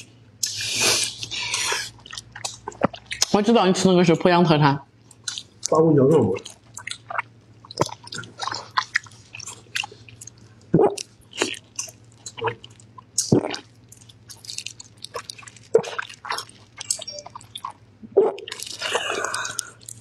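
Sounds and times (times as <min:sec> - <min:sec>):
chewing with mouth smacks: 0:00.0 - 0:03.5, 0:05.0 - 0:20.0.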